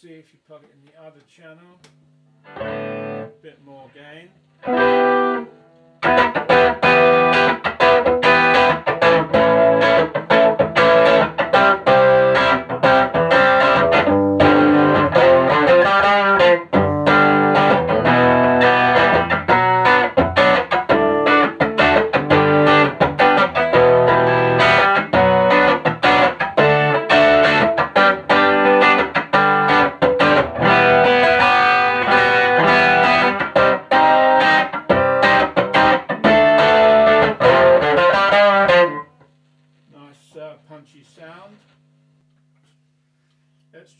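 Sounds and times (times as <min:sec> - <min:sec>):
overdriven electric guitar: 0:02.4 - 0:03.3, 0:04.6 - 0:39.3.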